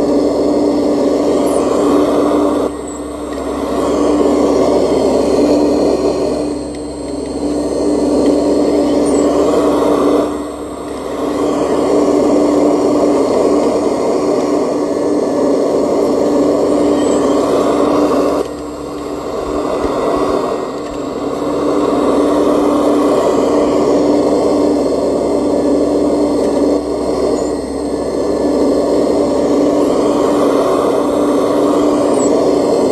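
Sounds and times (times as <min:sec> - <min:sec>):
model excavator motor whining: 0:00.0 - 0:32.9.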